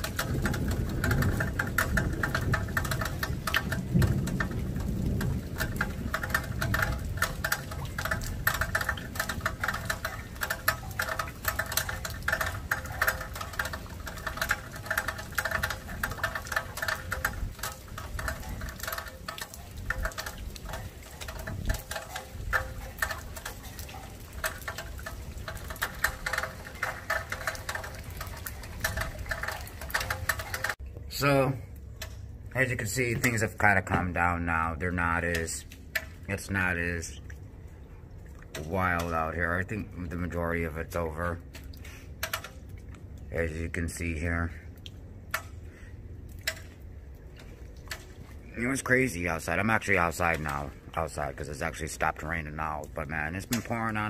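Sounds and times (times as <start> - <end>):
light rain pattering and dripping: 0.0 - 54.0.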